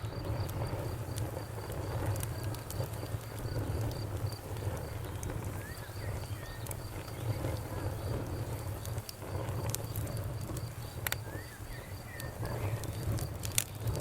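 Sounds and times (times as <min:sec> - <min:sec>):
insect chirping: 0:00.0 - 0:14.0
low rumble of flames: 0:00.0 - 0:14.0
sharp pops of fire: 0:00.0 - 0:14.0
wood fire crackling: 0:00.0 - 0:14.0.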